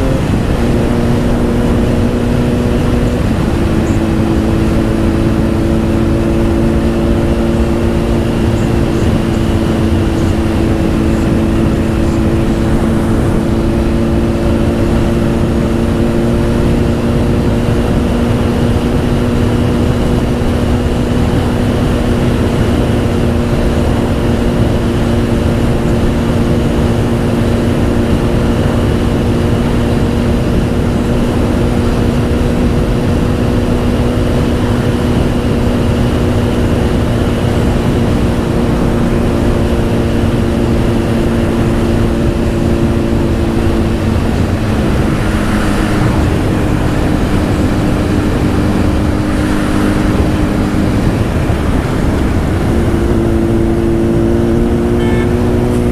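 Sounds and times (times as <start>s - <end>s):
motorcycle engine cruising: 0.0s - 55.9s
wind rush on microphone: 0.0s - 55.9s.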